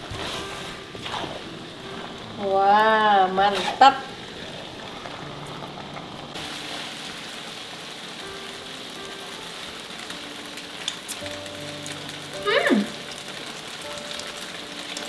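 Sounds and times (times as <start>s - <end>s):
noodles sizzling in a wok: 0.0s - 15.0s
soft background music: 0.0s - 15.0s.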